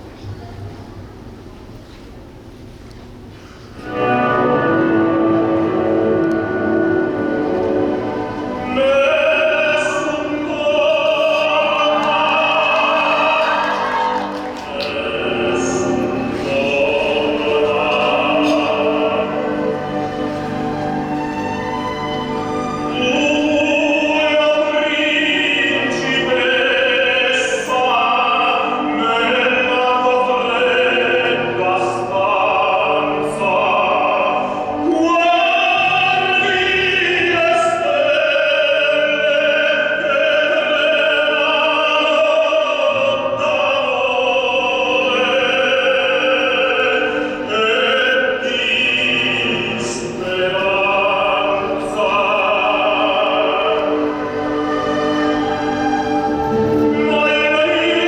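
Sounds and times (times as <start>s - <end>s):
operatic voice singing: 3.8s - 58.0s.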